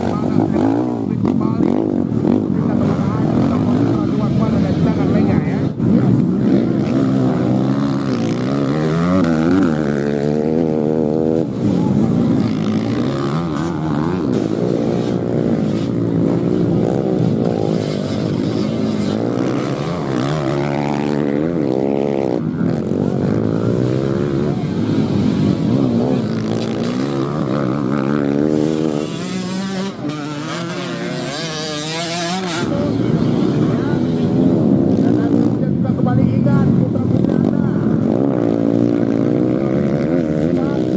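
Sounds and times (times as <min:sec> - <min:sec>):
motocross bikes revving: 0:00.0 - 0:40.9.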